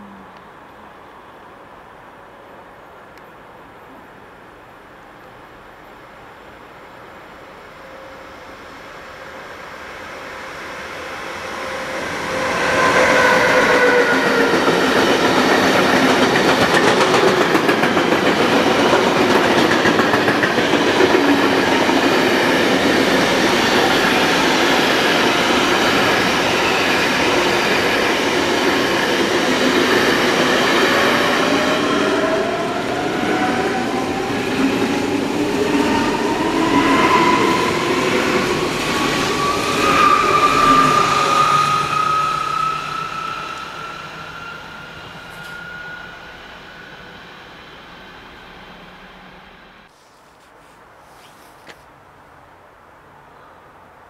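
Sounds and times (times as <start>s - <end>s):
electric locomotive passing: 0.0s - 49.9s.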